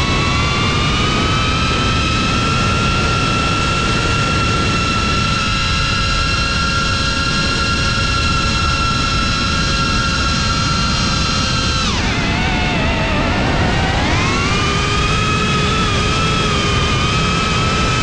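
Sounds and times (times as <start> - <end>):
drone motors whining: 0.0 - 18.0
wind rumbling on microphone: 0.0 - 18.0.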